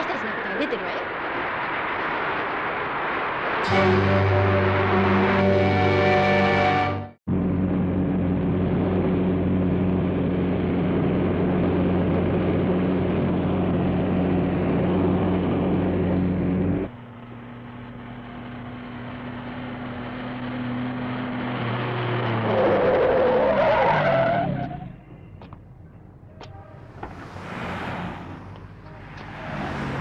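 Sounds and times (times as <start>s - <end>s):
car approaching and slowing: 1.1s - 30.0s
sports car engine: 1.1s - 30.0s.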